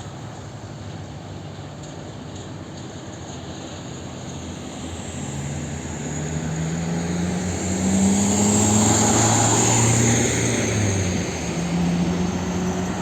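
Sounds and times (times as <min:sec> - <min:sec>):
truck diesel engine: 0:00.0 - 0:13.0.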